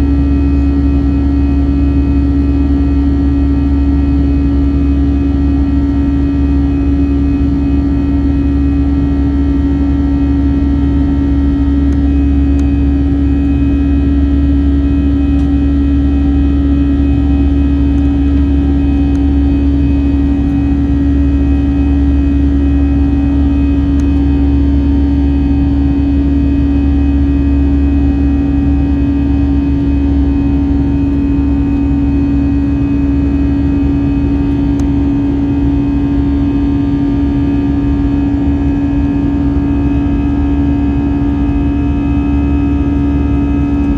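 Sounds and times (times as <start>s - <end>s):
airliner cabin engine drone: 0.0s - 43.9s.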